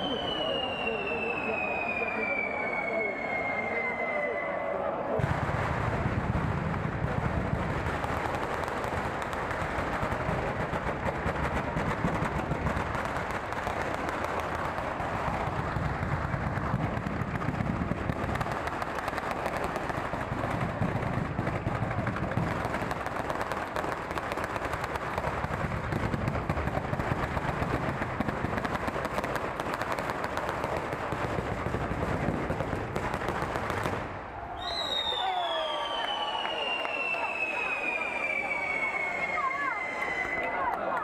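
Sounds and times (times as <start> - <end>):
firecrackers rapid bangs: 0.0 - 4.2, 5.2 - 40.5.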